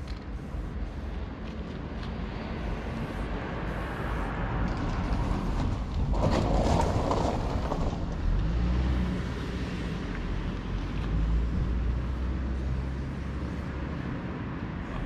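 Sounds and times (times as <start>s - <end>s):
road traffic rumble: 0.0s - 15.0s
vehicle passing by: 0.6s - 15.0s.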